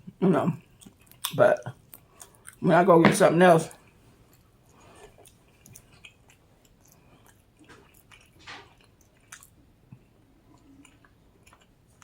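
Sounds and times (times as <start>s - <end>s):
close chewing: 0.6s - 2.6s, 3.7s - 12.0s.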